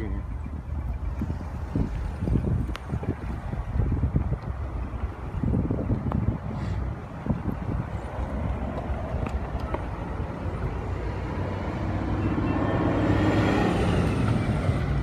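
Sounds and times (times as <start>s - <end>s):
steady traffic rumble: 0.0s - 15.0s
vehicle passing on road: 0.0s - 15.0s.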